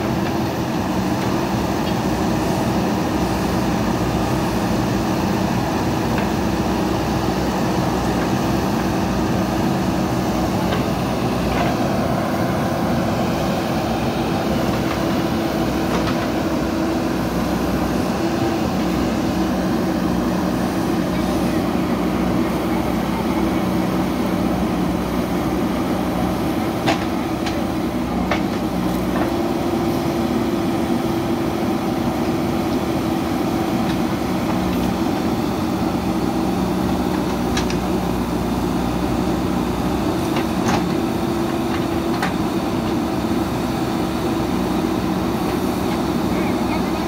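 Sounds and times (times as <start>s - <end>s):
diesel engines running under load: 0.0s - 47.0s.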